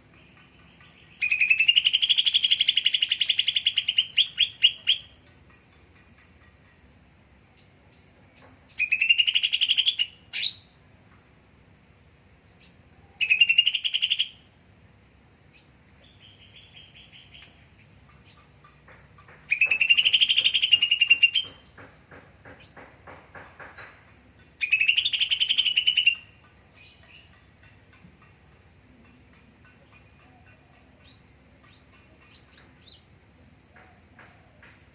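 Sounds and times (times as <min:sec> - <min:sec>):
soft bird chirps: 0:00.0 - 0:11.2, 0:12.5 - 0:14.4, 0:15.4 - 0:34.7
bird singing trilled phrases: 0:00.1 - 0:10.8, 0:12.6 - 0:14.5, 0:15.5 - 0:22.9, 0:23.6 - 0:28.6, 0:29.6 - 0:33.7.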